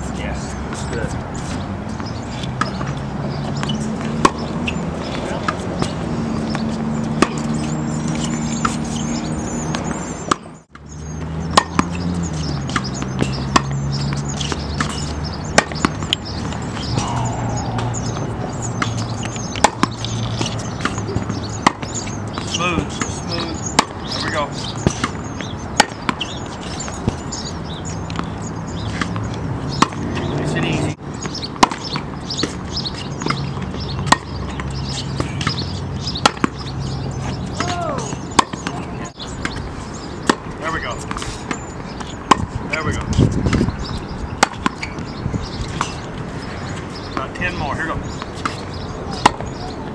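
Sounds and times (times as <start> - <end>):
birds chirping: 0.0 - 49.9
tennis ball struck by racket: 0.7 - 9.0, 9.7 - 10.9, 11.5 - 27.2, 28.9 - 43.8, 44.4 - 46.3, 48.2 - 49.6.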